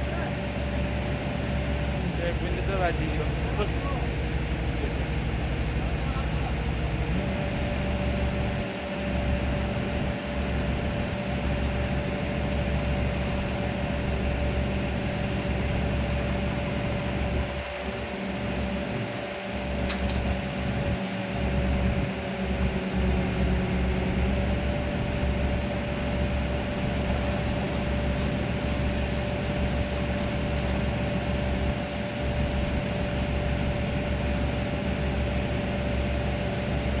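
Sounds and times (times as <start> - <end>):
excavator diesel engine running: 0.0 - 37.0
hydraulic whine: 0.0 - 37.0.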